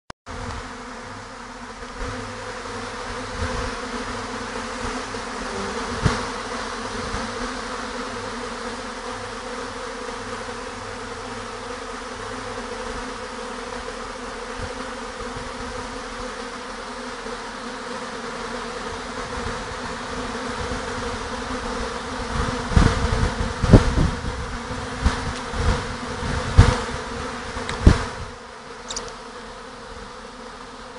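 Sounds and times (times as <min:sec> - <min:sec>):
bees buzzing: 0:00.3 - 0:30.9.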